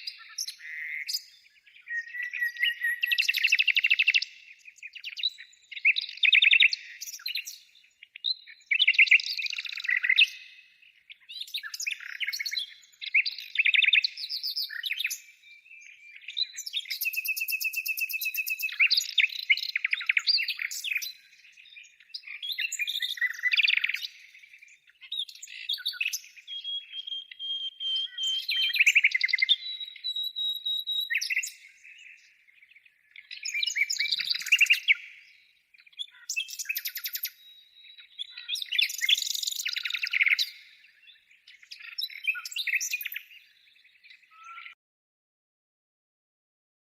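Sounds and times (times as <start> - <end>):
songbird chirping and trilling: 0.0 - 44.8.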